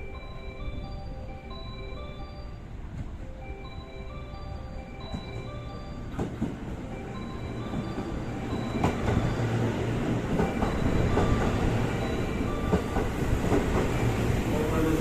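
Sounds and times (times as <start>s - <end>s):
electric train arriving: 0.0s - 15.0s.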